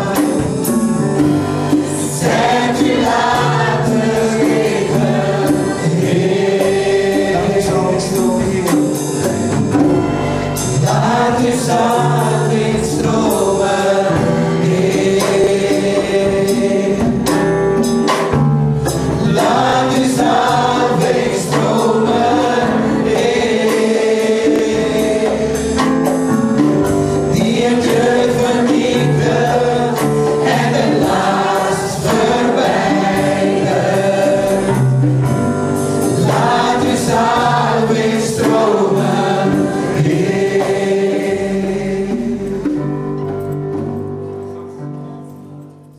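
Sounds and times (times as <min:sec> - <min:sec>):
worship team singing: 0:00.0 - 0:43.1
band accompaniment: 0:00.0 - 0:45.9.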